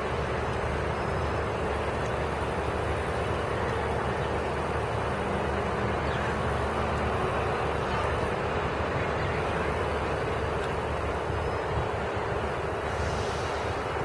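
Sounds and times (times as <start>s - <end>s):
diesel train engines rumbling: 0.0s - 14.0s.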